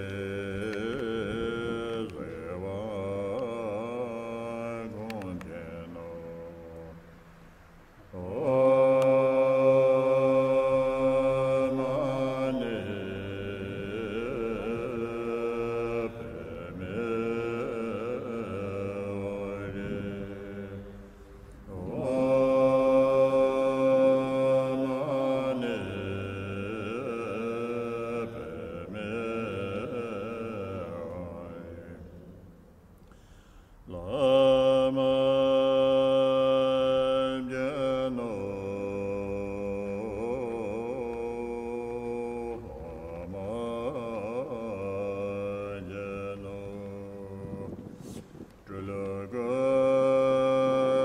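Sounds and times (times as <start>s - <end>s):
person chanting: 0.0s - 32.7s, 33.8s - 51.0s.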